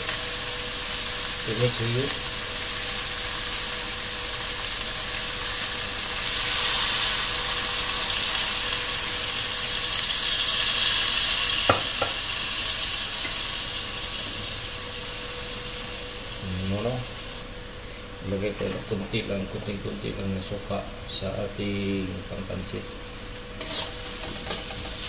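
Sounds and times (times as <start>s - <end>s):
chicken sizzling in a wok: 0.0s - 25.0s.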